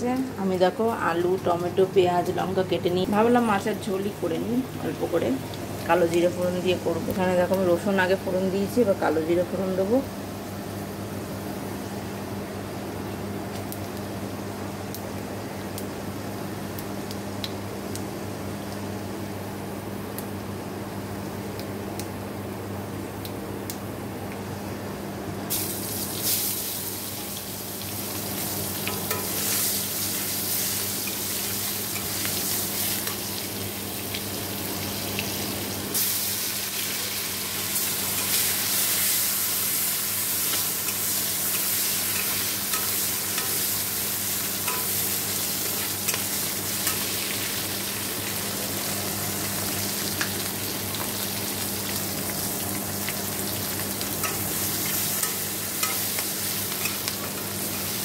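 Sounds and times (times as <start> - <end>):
hot oil sizzling: 0.0 - 19.6, 25.5 - 58.0.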